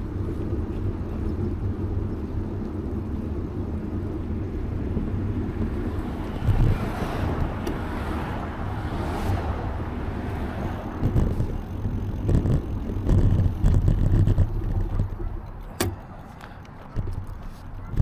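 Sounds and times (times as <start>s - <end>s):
wind buffeting microphone: 3.4s - 18.0s.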